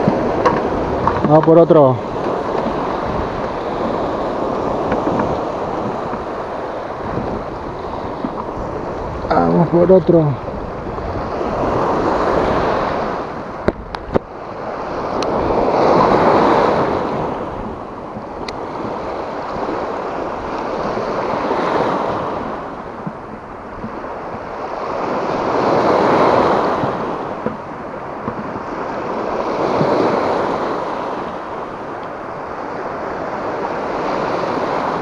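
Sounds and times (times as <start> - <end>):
waves washing over rocks: 0.0 - 35.0.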